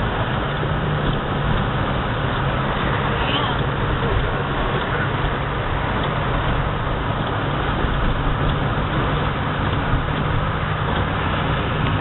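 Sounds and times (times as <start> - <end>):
car engine hum: 0.0 - 12.0
road and water noise: 0.0 - 12.0.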